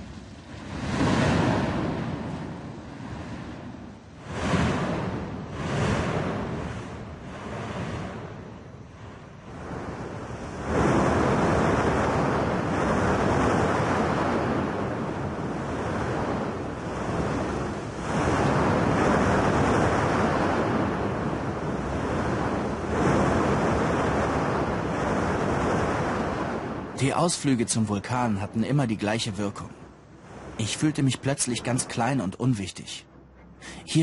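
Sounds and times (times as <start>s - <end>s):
volcanic vent rushing: 0.0s - 32.3s.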